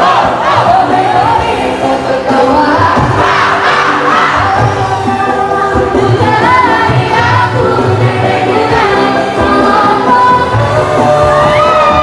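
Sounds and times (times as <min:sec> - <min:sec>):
voices singing over bass beat: 0:00.0 - 0:12.0.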